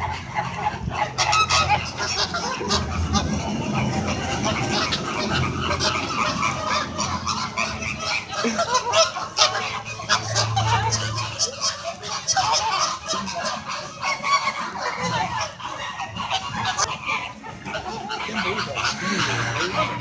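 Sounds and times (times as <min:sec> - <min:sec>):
flamingos honking: 0:00.0 - 0:20.0.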